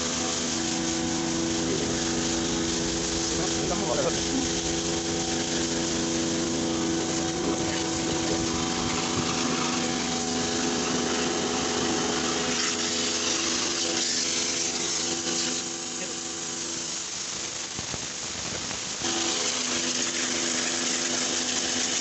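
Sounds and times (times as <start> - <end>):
pressure washer pump humming: 0.0 - 22.0
water jet hissing on concrete: 0.0 - 22.0.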